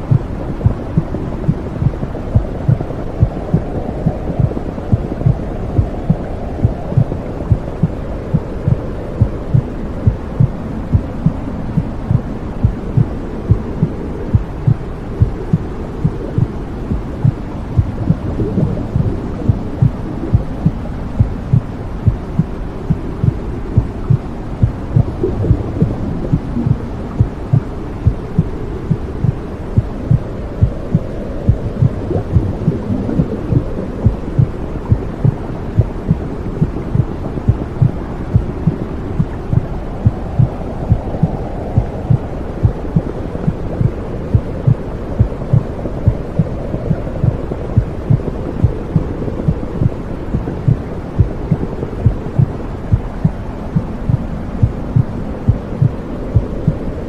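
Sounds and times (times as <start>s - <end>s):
heartbeat thumping: 0.0s - 56.9s
muffled whooshing rumble: 0.0s - 57.0s.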